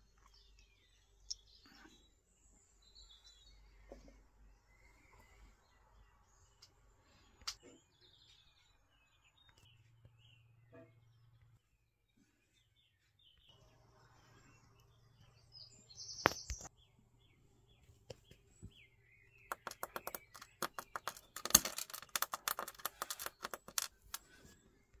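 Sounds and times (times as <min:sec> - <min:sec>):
faint bird chirps: 0:00.0 - 0:21.5.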